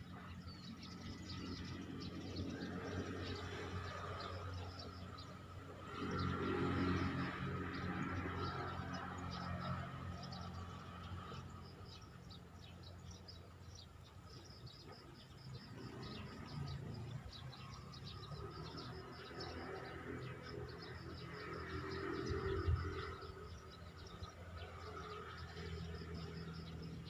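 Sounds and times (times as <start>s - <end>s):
birds and insects chirping: 0.0s - 27.0s.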